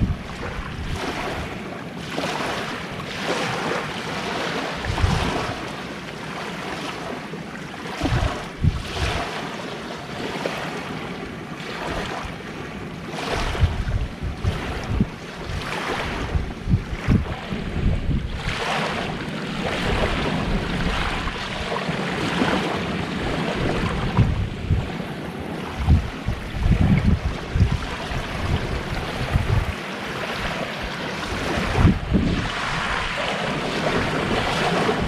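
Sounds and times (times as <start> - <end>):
wind buffeting microphone: 0.0 - 2.4, 4.4 - 5.7, 7.9 - 9.4, 11.0 - 35.0
sea waves washing onto shore: 0.0 - 35.0.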